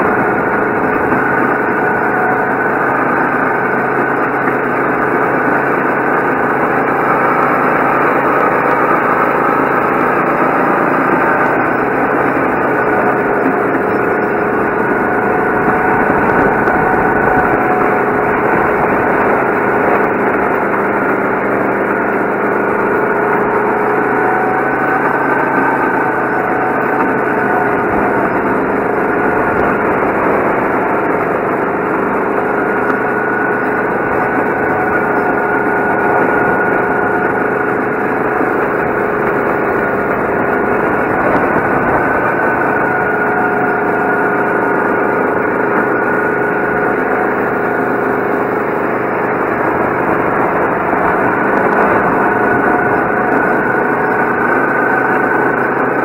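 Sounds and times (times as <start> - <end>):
go-kart engine running hard: 0.0 - 56.0.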